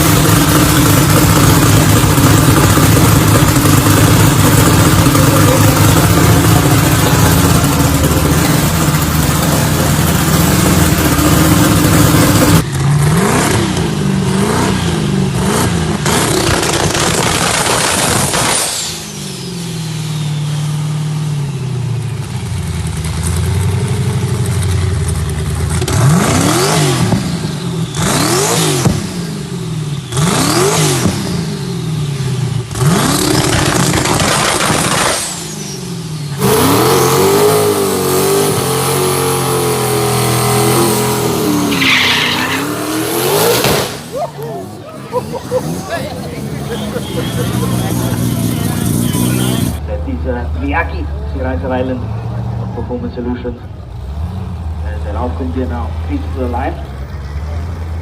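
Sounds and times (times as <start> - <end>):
car engine revving: 0.0 - 58.0
engine running at wavering speed: 0.0 - 58.0.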